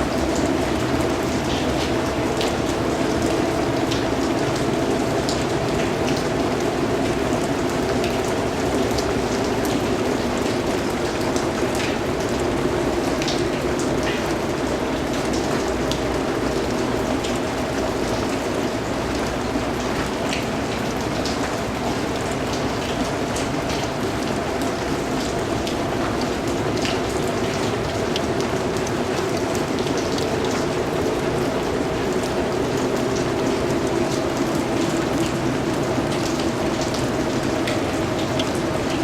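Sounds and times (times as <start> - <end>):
raindrops ticking on a surface: 0.0 - 39.0.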